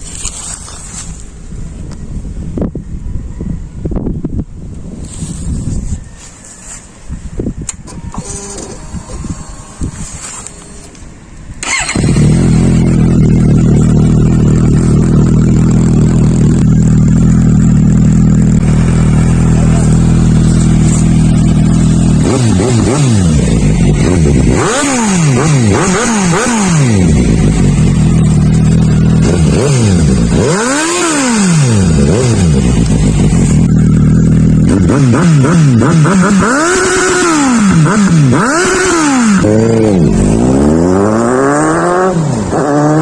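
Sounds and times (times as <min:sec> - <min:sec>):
motorcycle engine starting and idling: 0:07.2 - 0:43.0
motorcycle engine revving: 0:07.7 - 0:43.0.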